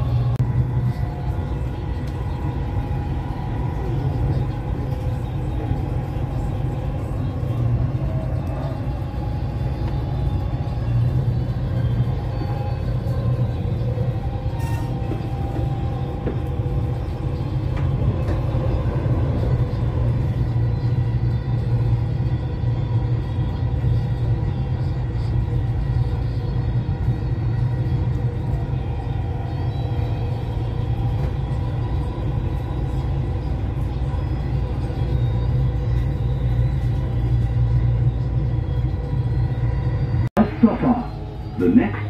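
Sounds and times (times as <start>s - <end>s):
train carriage rumbling: 0.0s - 42.0s.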